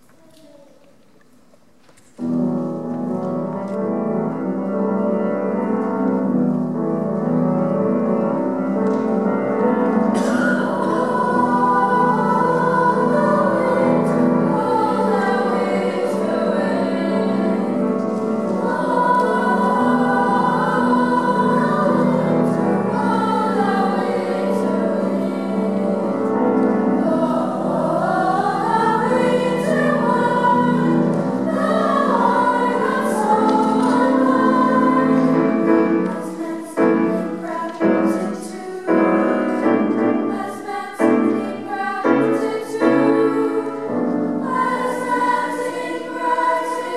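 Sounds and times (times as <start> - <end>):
piano accompaniment: 2.1 - 46.9
youth choir singing: 9.2 - 46.9.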